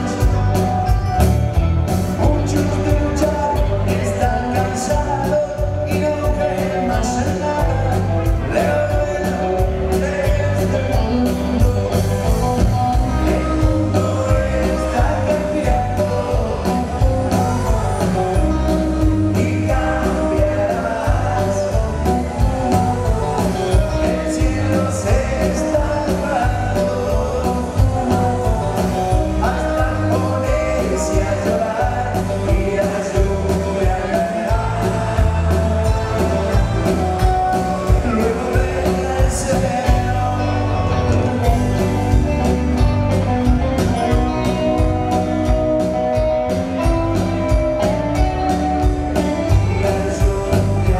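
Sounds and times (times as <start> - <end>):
man singing lead vocal: 0.0 - 1.0, 1.9 - 50.9
live band playing: 0.0 - 50.9.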